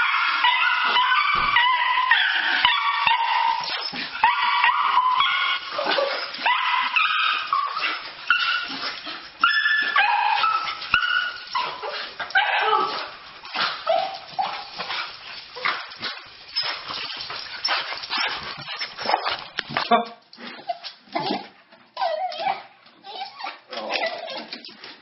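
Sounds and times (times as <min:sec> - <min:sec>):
dogs whining and yipping: 0:00.0 - 0:19.3, 0:20.5 - 0:24.7.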